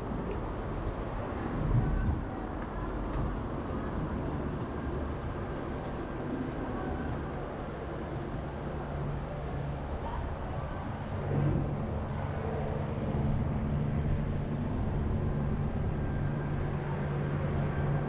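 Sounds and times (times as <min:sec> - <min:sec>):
low engine hum: 0:00.0 - 0:18.0
traffic noise: 0:00.0 - 0:18.0.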